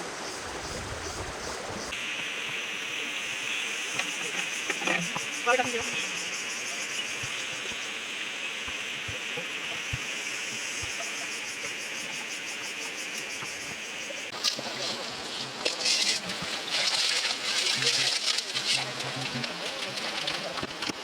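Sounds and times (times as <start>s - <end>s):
insects chirring: 0.0s - 20.8s
steady hiss: 0.0s - 21.0s.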